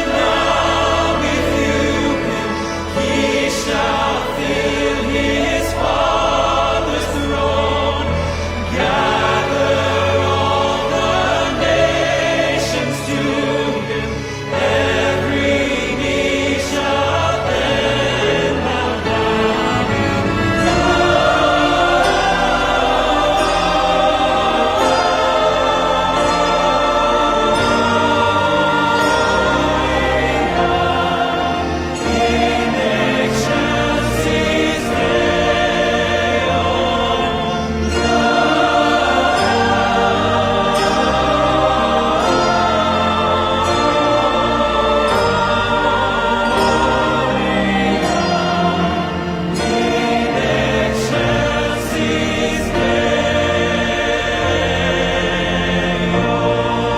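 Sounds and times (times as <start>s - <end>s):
choir singing: 0.0s - 56.9s
instrumental accompaniment with low bass: 0.0s - 56.9s.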